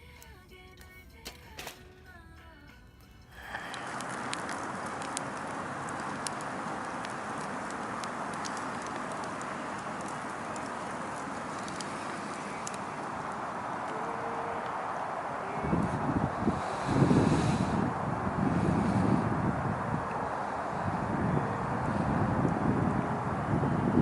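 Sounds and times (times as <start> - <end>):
campfire crackling and hissing: 0.0 - 24.0.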